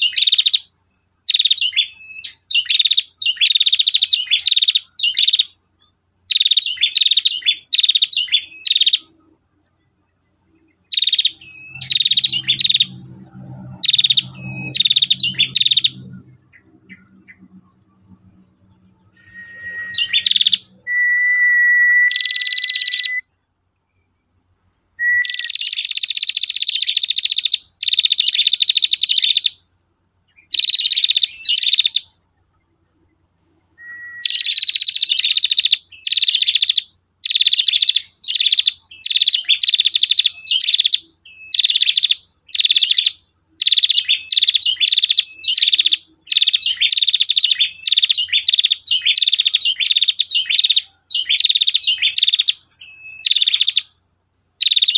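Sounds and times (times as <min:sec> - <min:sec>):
bird calling buzzy trills: 0:00.0 - 0:54.9
faint steady high tone: 0:00.0 - 0:54.9.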